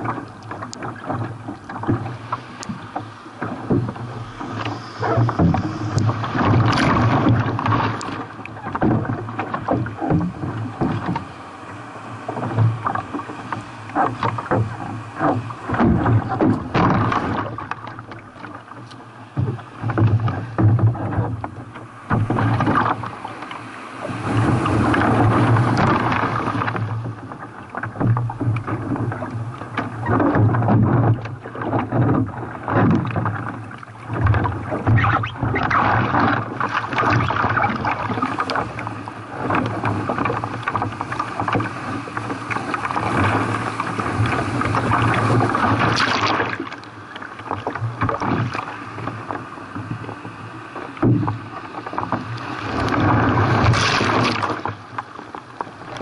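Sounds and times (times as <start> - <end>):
sea water rushing and splashing: 0.0 - 56.0.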